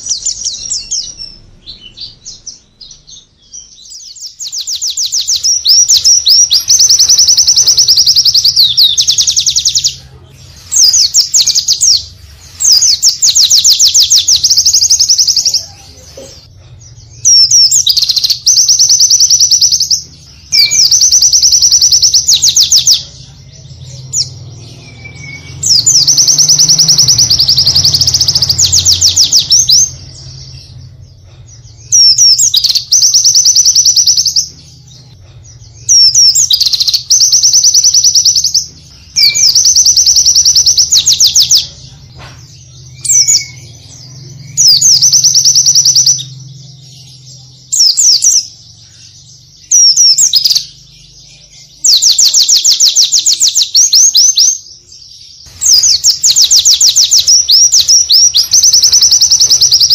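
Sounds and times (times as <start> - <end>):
bird high-pitched trilling song: 0.0 - 59.9.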